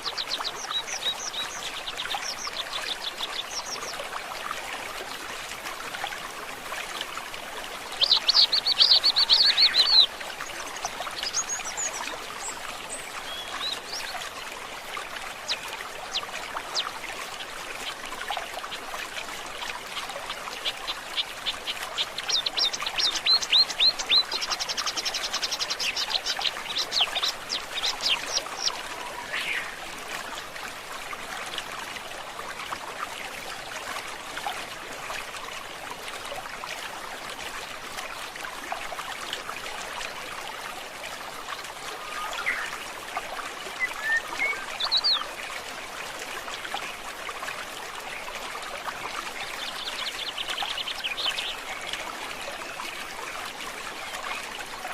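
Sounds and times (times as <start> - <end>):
stream water trickling: 0.0 - 54.9.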